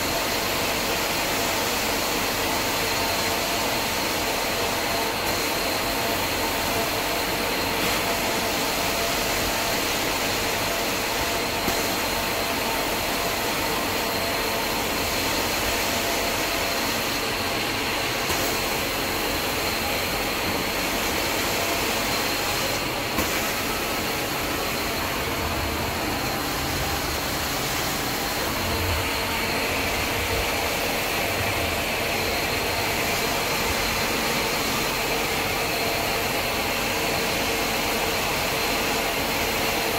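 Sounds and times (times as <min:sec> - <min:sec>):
carpet extraction machine running: 0:00.0 - 0:39.9.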